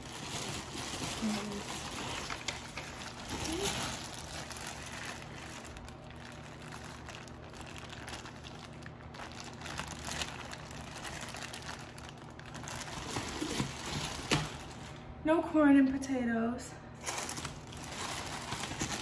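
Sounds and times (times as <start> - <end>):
food packaging crinkling: 0.0 - 15.0, 17.0 - 19.0
low steady hum: 0.0 - 19.0.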